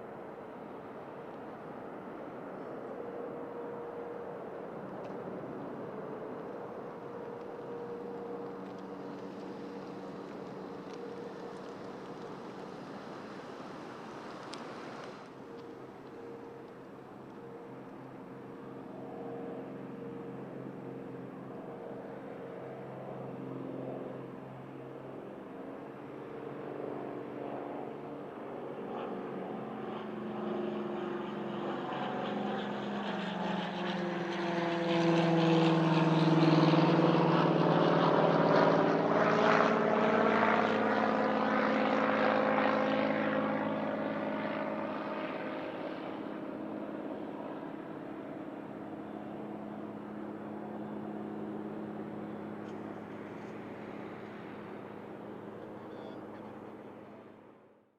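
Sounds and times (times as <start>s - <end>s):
jet engines passing by: 0.0s - 57.9s.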